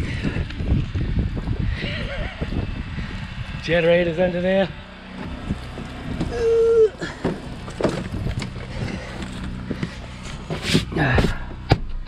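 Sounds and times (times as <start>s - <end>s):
portable generator humming: 0.0s - 12.0s.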